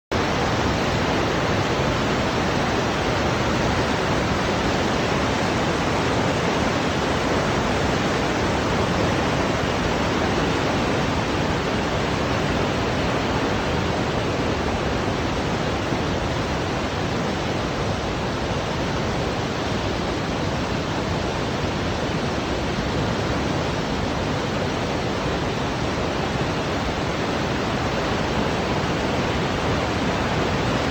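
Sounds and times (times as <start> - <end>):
river water rushing: 0.1 - 30.9.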